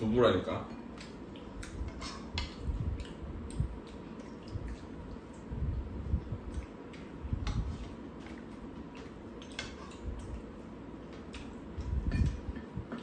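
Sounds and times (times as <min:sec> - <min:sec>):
chewing and wet mouth noises: 0:00.9 - 0:13.0.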